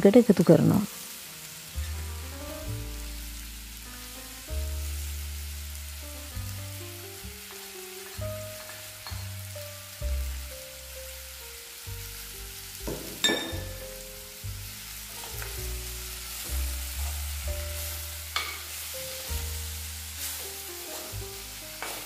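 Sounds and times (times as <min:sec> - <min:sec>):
food sizzling: 0:00.0 - 0:22.0.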